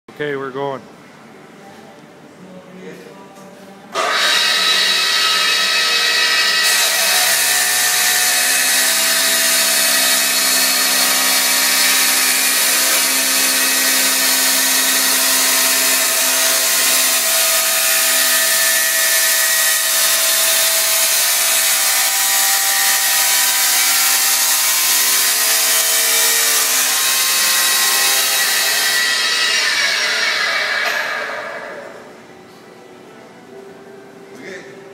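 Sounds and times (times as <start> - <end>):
cut-off saw grinding steel: 4.0 - 32.1.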